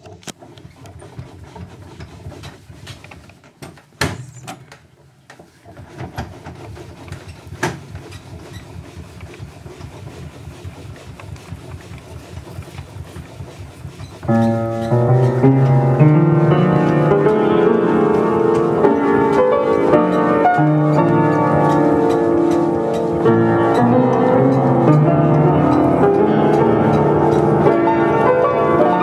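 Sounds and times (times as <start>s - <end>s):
player piano bellows chuffing: 5.5s - 29.0s.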